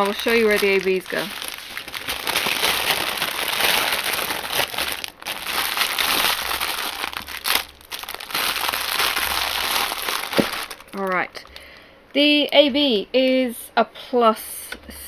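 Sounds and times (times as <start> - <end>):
plastic bags crinkling: 0.0 - 12.7.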